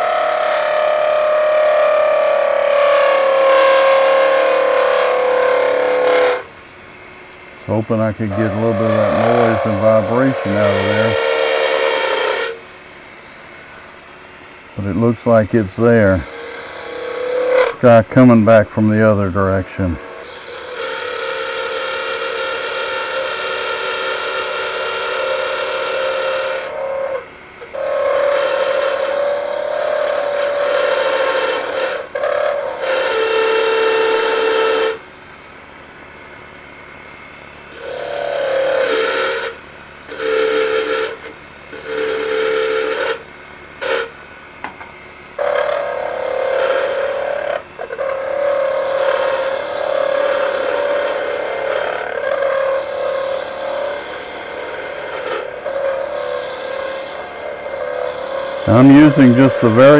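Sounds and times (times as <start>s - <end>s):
chisel cutting wood on lathe: 0.0s - 6.6s, 7.5s - 14.2s, 14.8s - 35.0s, 37.6s - 43.2s, 43.8s - 44.2s, 45.4s - 59.9s
steady whining tone: 0.0s - 59.9s.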